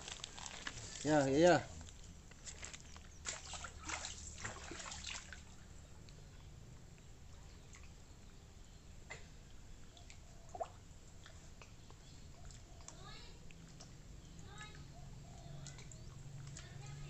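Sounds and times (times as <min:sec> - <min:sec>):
water dripping and trickling: 0:00.0 - 0:17.0.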